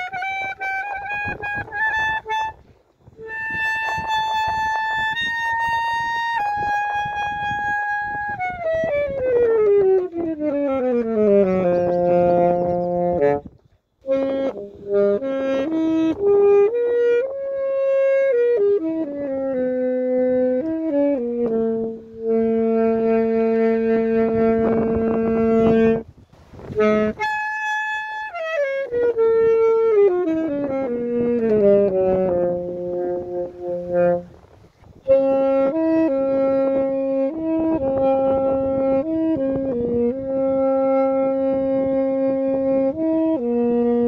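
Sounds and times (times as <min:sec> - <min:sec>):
saxophone playing slow melody: 0:00.0 - 0:44.0.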